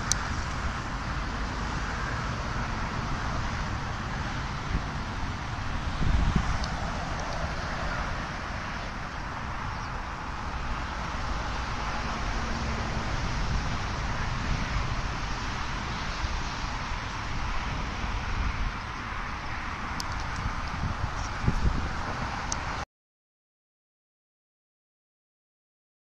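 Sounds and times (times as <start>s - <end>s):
wind blowing: 0.0s - 22.8s
wind gusts rumbling on microphone: 0.0s - 22.8s.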